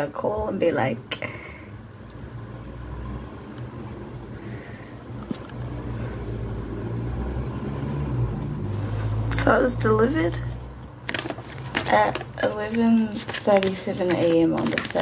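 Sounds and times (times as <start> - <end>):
mechanical hum and rumble: 0.0 - 15.0.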